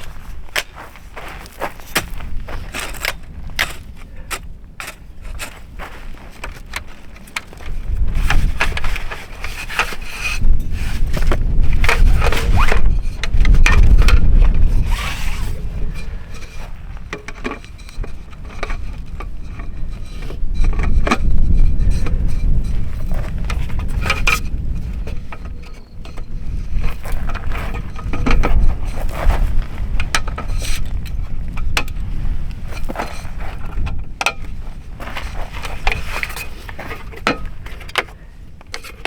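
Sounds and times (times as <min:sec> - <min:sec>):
knocks and scraping: 0:00.0 - 0:39.0.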